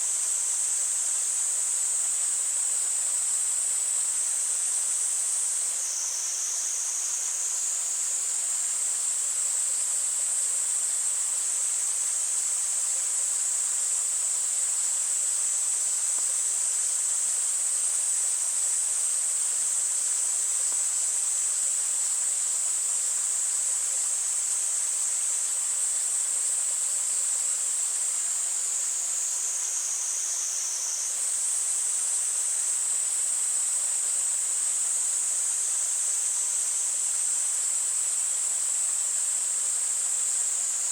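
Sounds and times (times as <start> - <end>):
cicadas droning: 0.0 - 40.9
faint stream water: 0.0 - 40.9.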